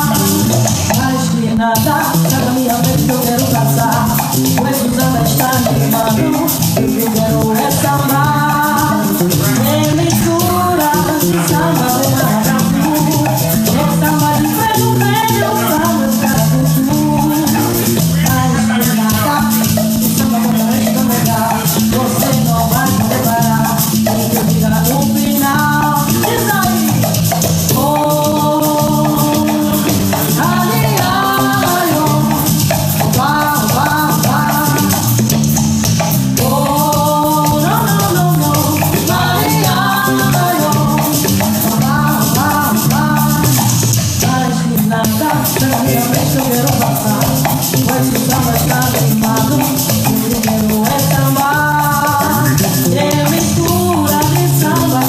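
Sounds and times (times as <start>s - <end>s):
drums: 0.0s - 55.0s
electric bass: 0.0s - 55.0s
electric guitar: 0.0s - 55.0s
ticking high percussion beat: 0.0s - 55.0s
woman singing: 0.0s - 55.0s.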